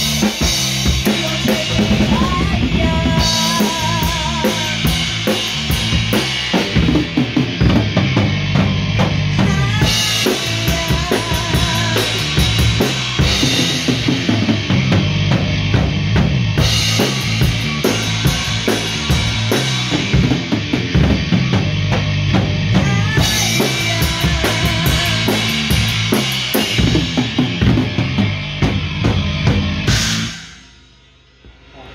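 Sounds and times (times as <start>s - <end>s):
electric bass line: 0.0s - 31.8s
drum kit beat: 0.0s - 31.9s.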